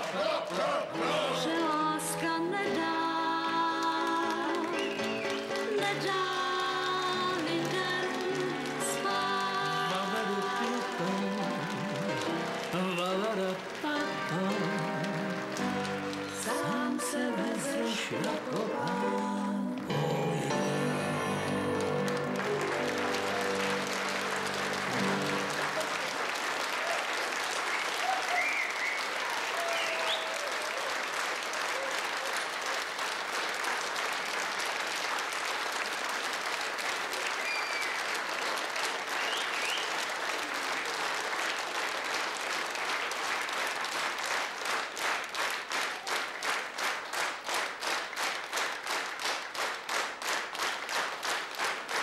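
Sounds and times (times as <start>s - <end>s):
audience applauding: 0.0s - 2.0s, 2.8s - 52.0s
rhythmic clapping in unison: 0.0s - 20.0s, 20.6s - 52.0s.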